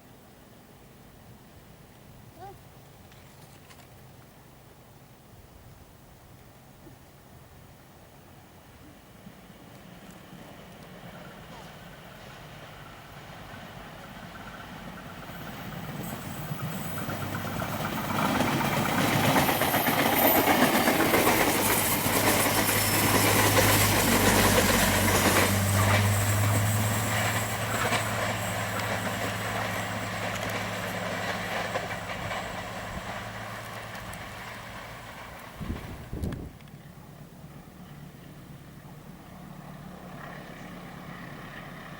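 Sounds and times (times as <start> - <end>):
train wheel and rail noise: 8.0 - 41.9
locomotive engine hum: 8.1 - 41.9.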